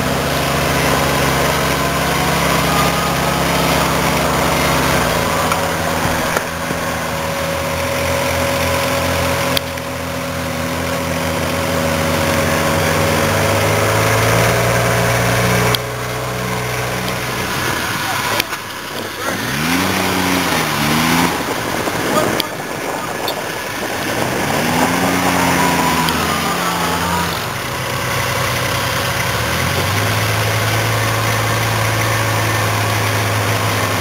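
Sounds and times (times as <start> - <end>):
water churning: 0.0 - 10.5, 16.0 - 34.0
engines running steadily: 0.0 - 34.0.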